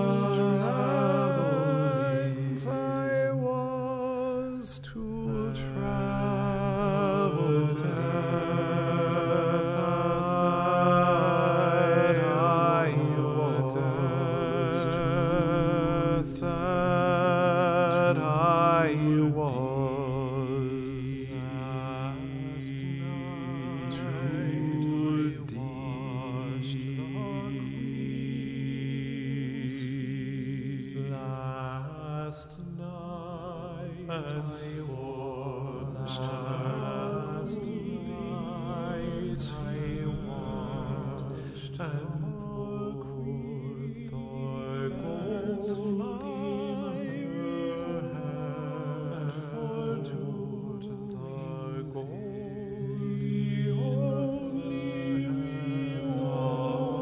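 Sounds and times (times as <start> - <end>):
voices singing chant-like notes: 0.0 - 57.0.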